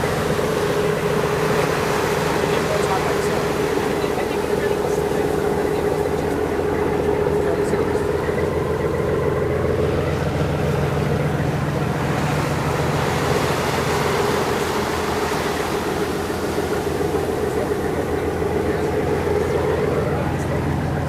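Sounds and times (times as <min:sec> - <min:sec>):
boat engine droning: 0:00.0 - 0:21.0
water rushing past hull: 0:00.0 - 0:21.0.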